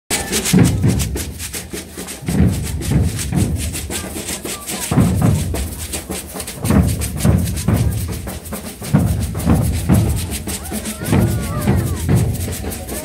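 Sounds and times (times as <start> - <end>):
bass drums playing: 0.1 - 13.0
shakers rattling: 0.1 - 13.0.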